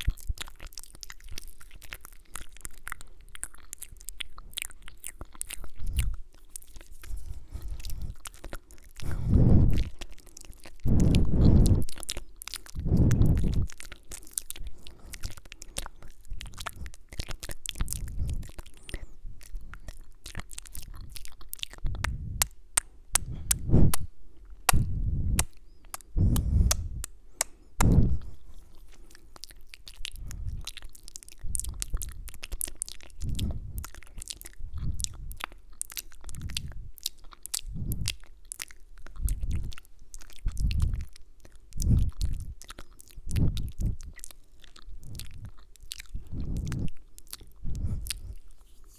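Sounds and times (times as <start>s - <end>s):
wet mouth clicks and smacks: 0.0s - 24.1s, 24.7s - 48.9s.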